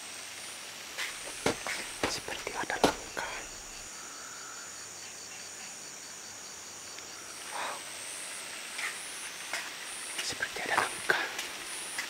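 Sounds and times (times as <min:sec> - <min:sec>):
crickets chirping: 0:00.0 - 0:12.0
pulsing insect chirp: 0:00.0 - 0:12.0.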